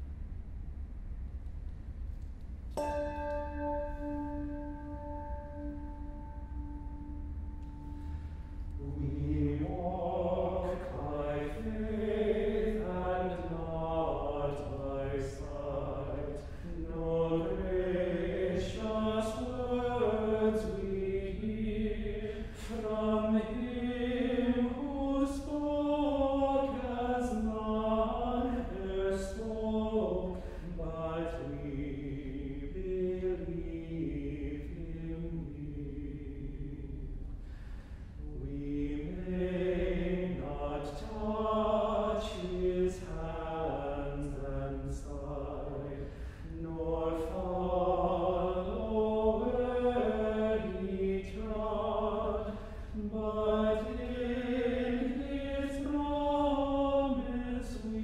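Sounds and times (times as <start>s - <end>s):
men singing plainsong chant: 8.8s - 36.8s, 38.2s - 58.0s.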